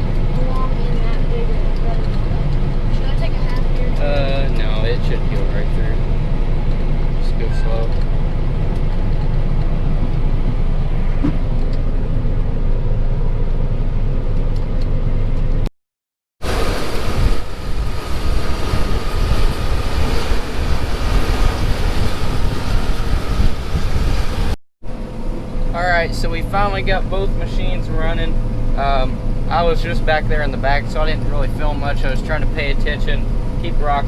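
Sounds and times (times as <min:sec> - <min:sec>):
combine harvester running: 0:00.0 - 0:15.6, 0:16.4 - 0:34.0.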